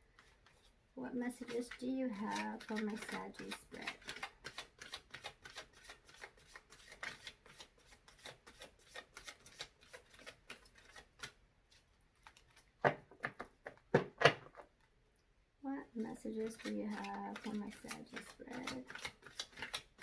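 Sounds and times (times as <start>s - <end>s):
cards being shuffled: 1.4s - 14.7s, 16.1s - 20.0s.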